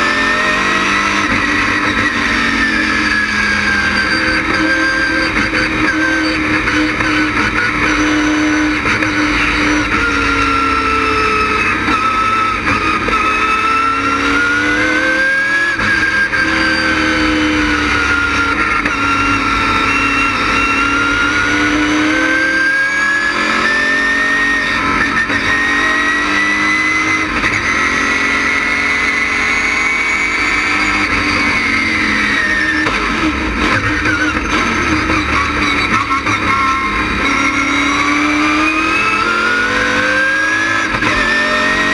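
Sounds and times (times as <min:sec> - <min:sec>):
race car engine at speed: 0:00.0 - 0:41.9.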